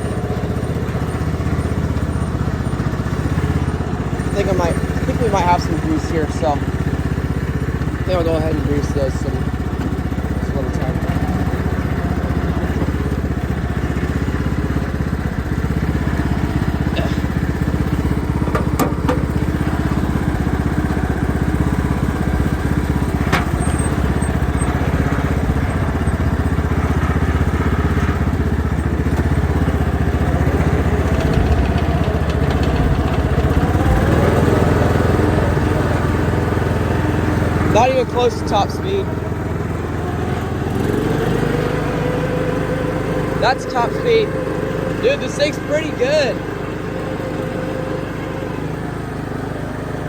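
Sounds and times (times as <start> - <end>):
riding lawnmower engine running: 0.0 - 50.0.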